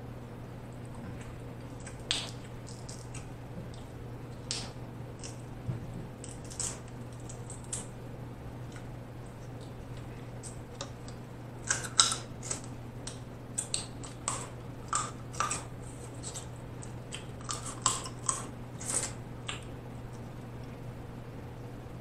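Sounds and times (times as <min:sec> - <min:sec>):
low hum: 0:00.0 - 0:22.0
crab shells cracking: 0:01.2 - 0:05.5, 0:06.2 - 0:08.0, 0:08.6 - 0:20.3.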